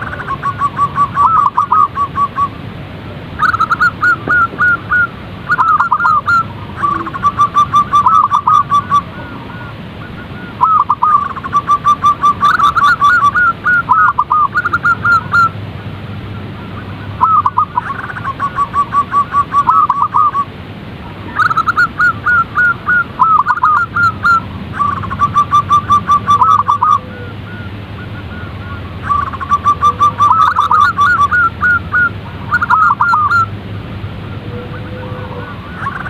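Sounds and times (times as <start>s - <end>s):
doves singing staccato phrases: 3.3s - 20.5s, 21.1s - 36.0s.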